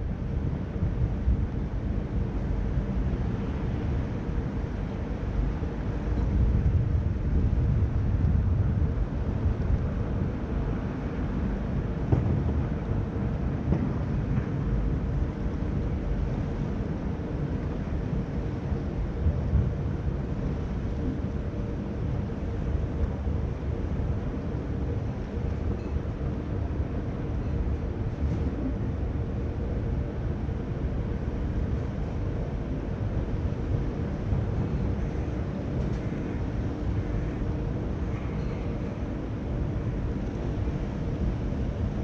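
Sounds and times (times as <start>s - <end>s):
ship machinery rumble and hum: 0.0s - 42.0s.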